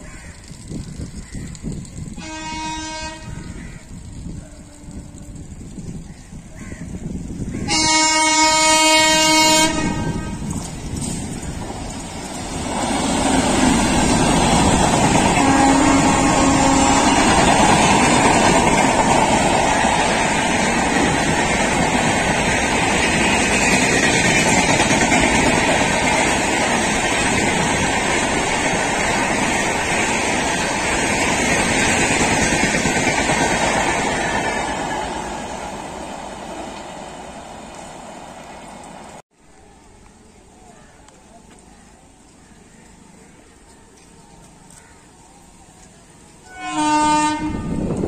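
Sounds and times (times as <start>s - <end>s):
train passing at speed: 0.0s - 39.2s, 45.4s - 48.0s.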